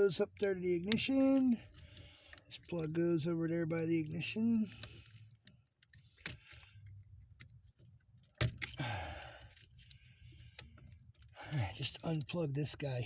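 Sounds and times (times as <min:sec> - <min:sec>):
wires rustling and scraping: 0:00.0 - 0:13.0.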